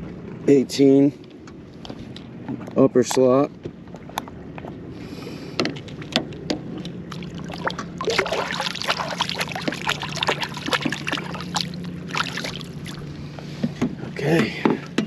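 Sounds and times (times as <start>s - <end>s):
steady low hum: 0.0s - 15.0s
water lapping against boat hull: 1.2s - 15.0s.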